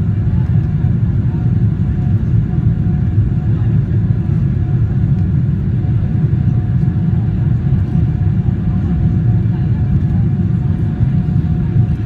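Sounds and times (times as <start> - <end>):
jet engine low rumble in cabin: 0.0 - 12.0.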